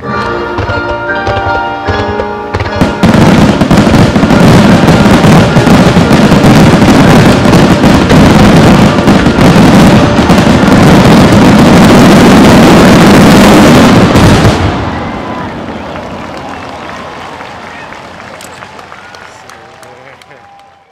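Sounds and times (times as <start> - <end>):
fireworks barrage: 0.0 - 20.8.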